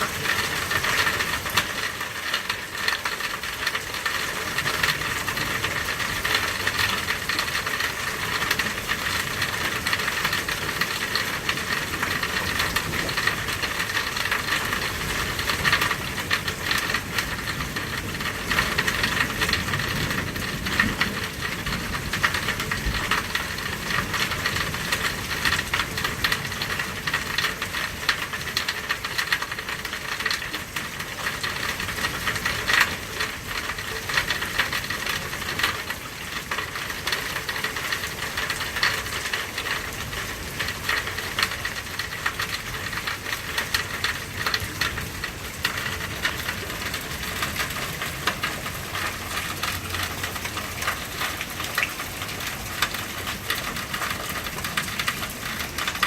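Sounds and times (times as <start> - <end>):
rain hissing: 0.0 - 56.0
raindrops pattering: 0.0 - 56.0.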